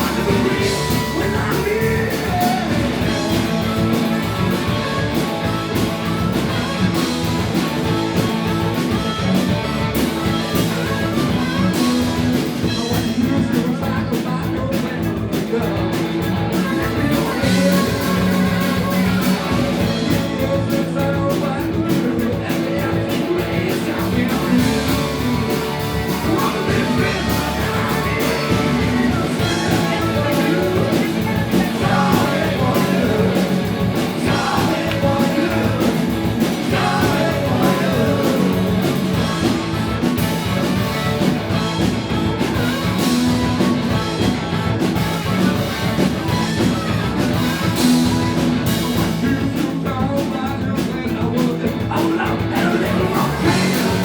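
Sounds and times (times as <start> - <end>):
person singing: 0.0 - 5.6, 9.7 - 44.3, 48.7 - 54.0
rock band playing live: 0.0 - 54.0.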